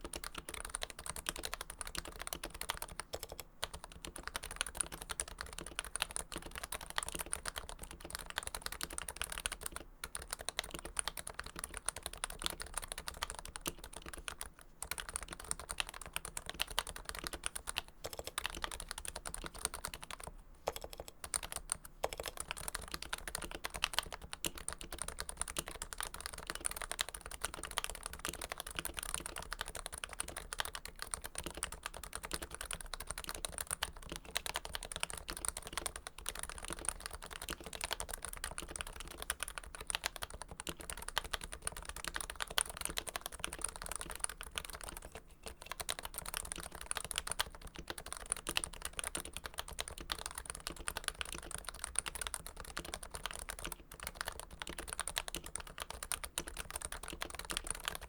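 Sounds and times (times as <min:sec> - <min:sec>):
typing on a keyboard: 0:00.0 - 0:58.0.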